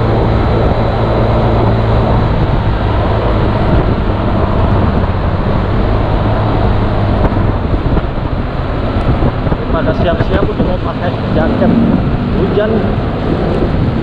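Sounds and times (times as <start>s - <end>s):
scooter engine humming: 0.0s - 14.0s
wind rushing over microphone: 0.0s - 14.0s.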